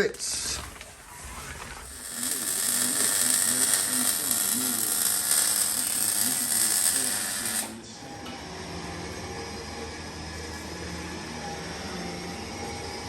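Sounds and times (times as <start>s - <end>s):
power tool whining: 0.3s - 13.0s.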